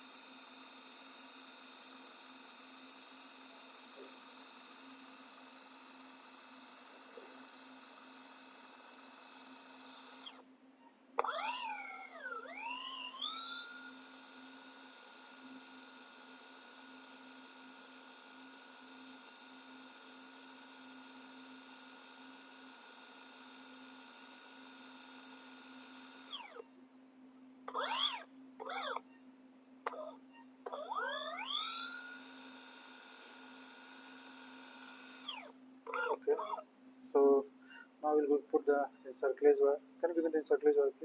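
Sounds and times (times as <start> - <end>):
power drill whining: 0.0 - 10.4, 11.2 - 26.6, 27.7 - 29.1, 29.8 - 36.6.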